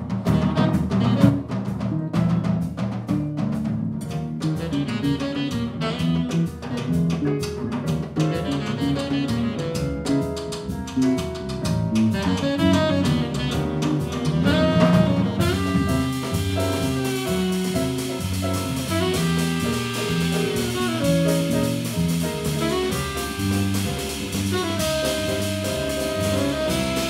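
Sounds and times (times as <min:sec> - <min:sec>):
drum kit: 0:00.0 - 0:27.0
electric bass: 0:00.0 - 0:27.0
saxophone: 0:00.2 - 0:01.5, 0:04.5 - 0:07.3, 0:08.1 - 0:10.7, 0:12.0 - 0:27.0.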